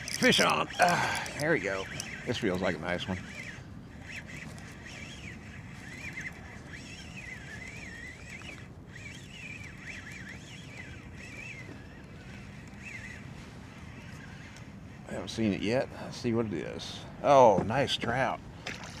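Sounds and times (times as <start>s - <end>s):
fishing reel gear whine: 0.0s - 19.0s.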